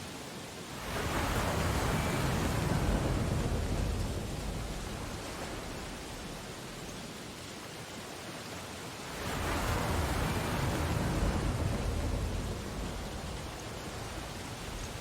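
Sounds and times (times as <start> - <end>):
ocean surf: 0.0 - 15.0
wave rumbling: 0.7 - 7.2, 9.1 - 15.0.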